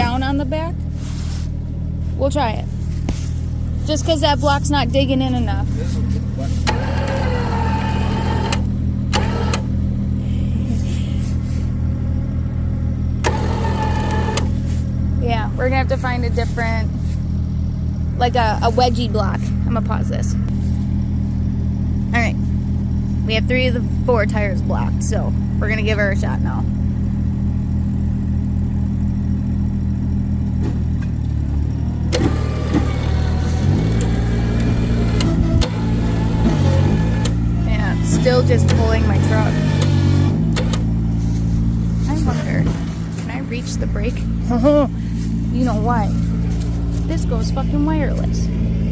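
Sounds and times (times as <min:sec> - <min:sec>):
truck engine idling: 0:00.0 - 0:48.9
winch motor whine: 0:03.4 - 0:48.9.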